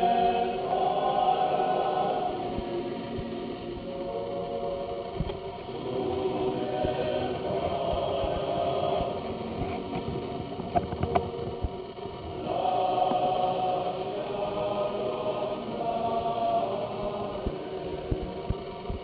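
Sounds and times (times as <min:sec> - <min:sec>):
male choir singing: 0:00.0 - 0:10.0, 0:12.3 - 0:19.0.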